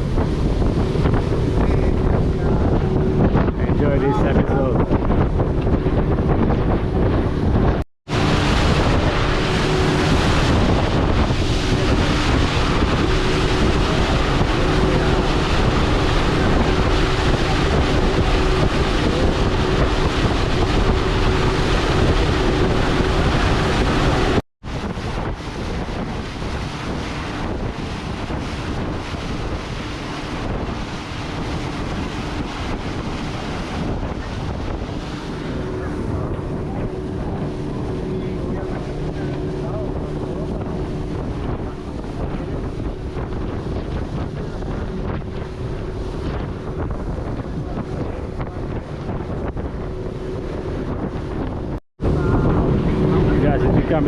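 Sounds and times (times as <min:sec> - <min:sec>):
motorboat engine hum: 0:00.0 - 0:54.0
rushing water: 0:00.0 - 0:54.0
wind buffeting microphone: 0:00.0 - 0:54.0.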